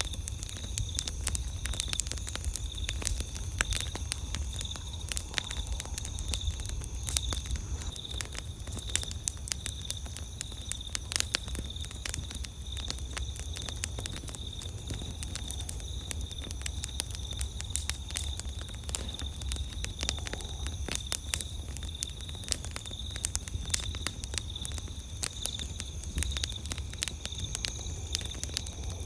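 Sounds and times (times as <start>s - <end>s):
campfire crackling and popping: 0.0s - 29.0s
night insects chirping trill: 0.0s - 29.0s.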